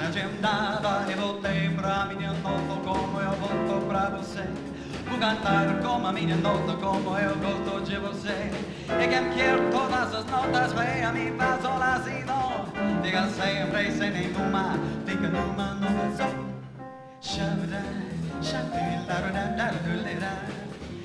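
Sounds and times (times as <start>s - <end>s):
person singing: 0.0s - 16.6s, 17.2s - 21.0s
jazz band playing: 0.0s - 21.0s.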